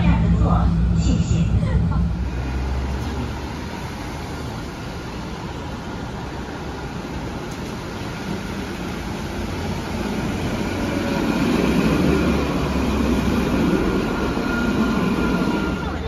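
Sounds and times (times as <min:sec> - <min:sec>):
tram rumble and wheel noise: 0:00.0 - 0:16.0.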